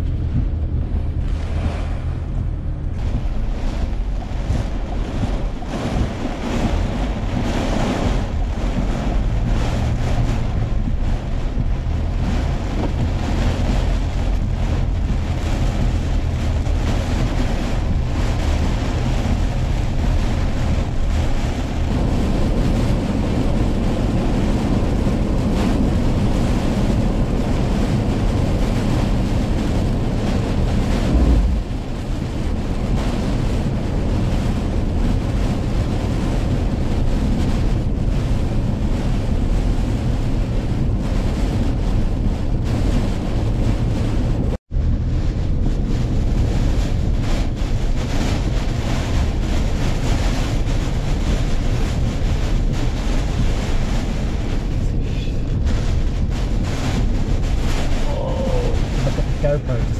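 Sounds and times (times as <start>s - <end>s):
heavy rain on a car: 0.0s - 59.9s
low road rumble: 0.0s - 59.9s
strong wind: 0.0s - 59.9s.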